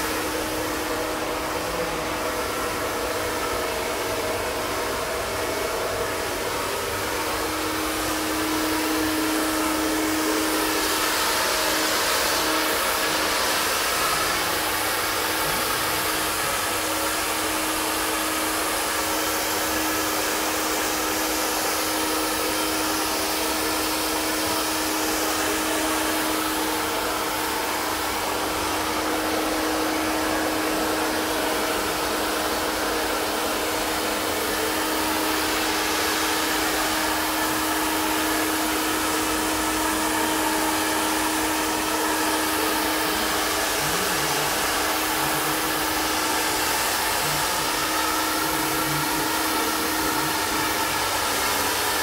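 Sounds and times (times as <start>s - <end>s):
blower fan rushing air: 0.0s - 52.0s.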